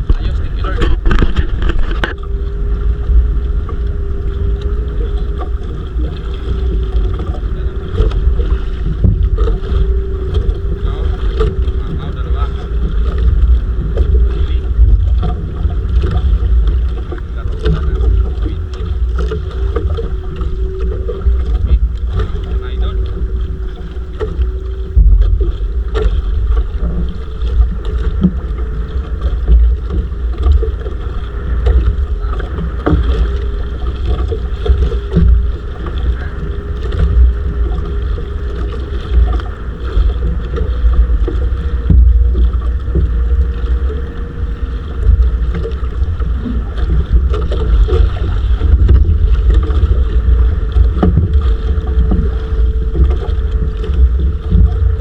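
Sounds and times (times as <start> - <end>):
boat engine running: 0.0 - 55.0
wind buffeting microphone: 0.0 - 55.0.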